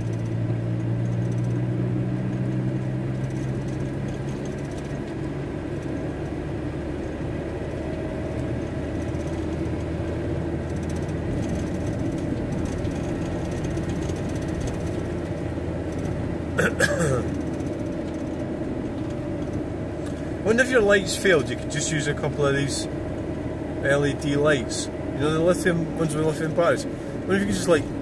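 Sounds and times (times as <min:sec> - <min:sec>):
road and engine noise: 0:00.0 - 0:28.0
van engine hum: 0:00.0 - 0:28.0.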